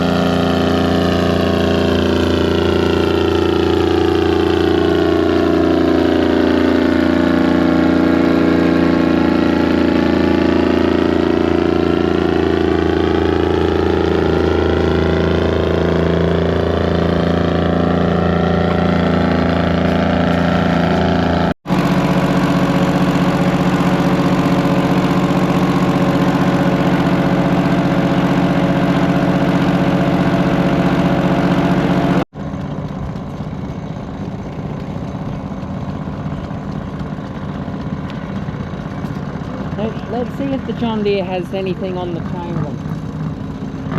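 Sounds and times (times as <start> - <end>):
tractor engine idling: 0.0 - 43.9.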